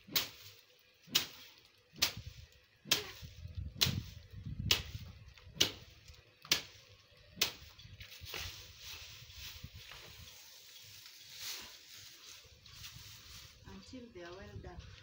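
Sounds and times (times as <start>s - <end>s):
stick beating dry plants: 0.0s - 14.4s
dry stalks rustling: 0.0s - 15.0s.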